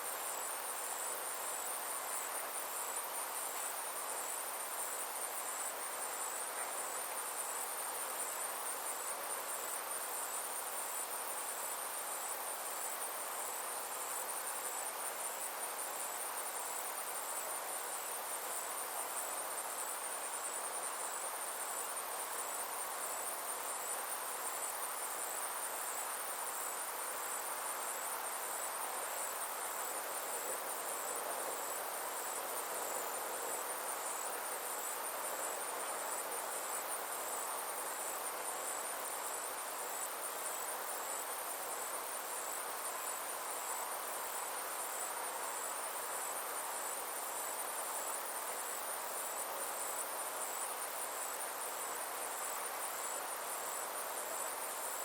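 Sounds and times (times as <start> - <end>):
insects chirring: 0.0 - 55.0
soft background hiss: 0.0 - 55.0.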